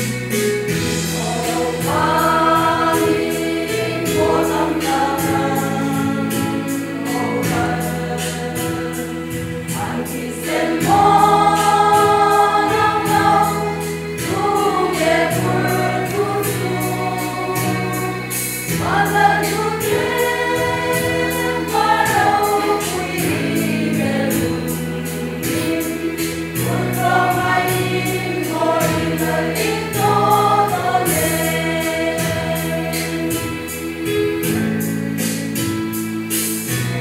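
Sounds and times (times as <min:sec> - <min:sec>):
women's choir singing a hymn: 0:00.0 - 0:35.9.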